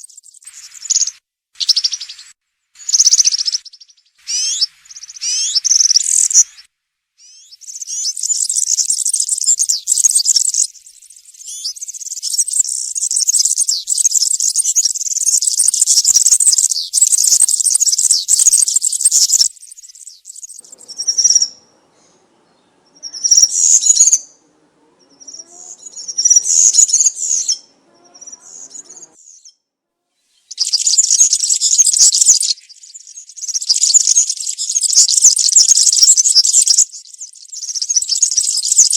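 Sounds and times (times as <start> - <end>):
bird singing jingling song: 0.0 - 29.6, 30.4 - 38.9.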